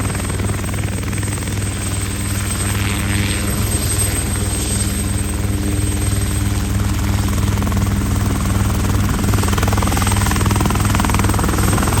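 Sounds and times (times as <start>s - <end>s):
loud pulsing engine drone: 0.0s - 12.0s.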